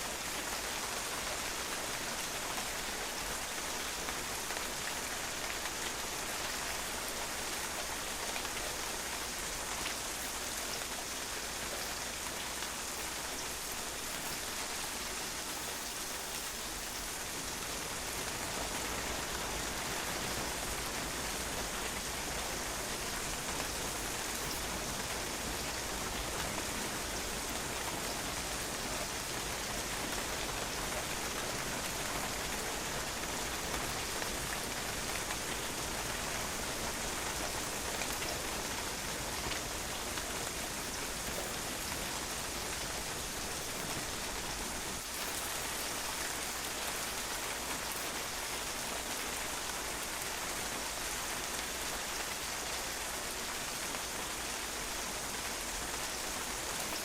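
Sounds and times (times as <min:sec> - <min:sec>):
rain pattering on patio: 0:00.0 - 0:57.0.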